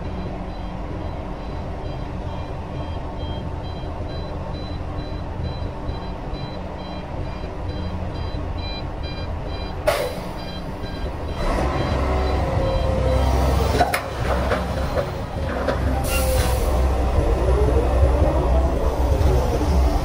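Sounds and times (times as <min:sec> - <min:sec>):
excavator diesel engine running: 0:00.0 - 0:20.0
truck reversing alarm beeping: 0:00.0 - 0:20.0.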